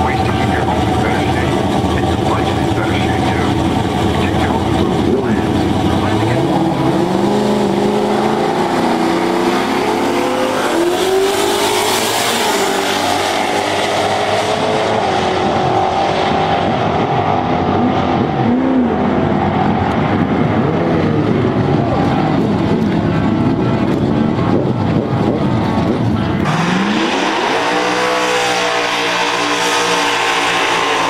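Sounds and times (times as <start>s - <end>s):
drag-race cars accelerating: 0.0s - 31.0s.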